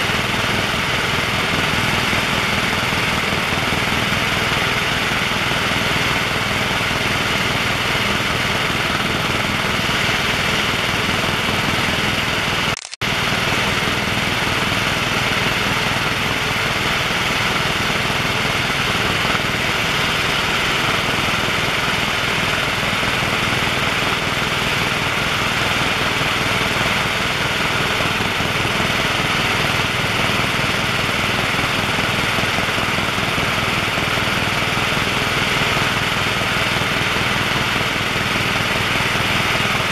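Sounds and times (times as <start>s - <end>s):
helicopter cabin engine and rotor noise: 0.0s - 39.9s.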